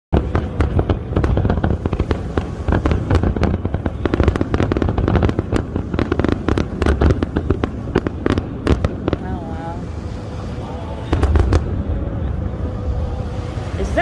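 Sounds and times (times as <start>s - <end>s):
fireworks bangs and crackles: 0.1s - 14.0s
steady low rumble: 0.1s - 14.0s.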